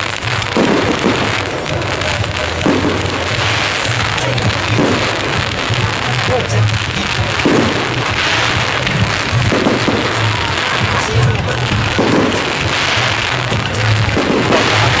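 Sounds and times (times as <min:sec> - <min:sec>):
crowd voices: 0:00.0 - 0:15.0
fireworks crackling and popping: 0:00.0 - 0:15.0
loud music with low beat: 0:00.0 - 0:15.0.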